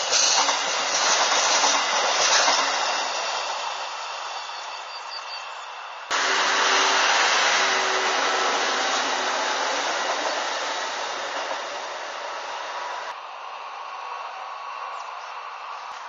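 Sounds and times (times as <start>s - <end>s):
train passing rumble: 0.0s - 16.0s.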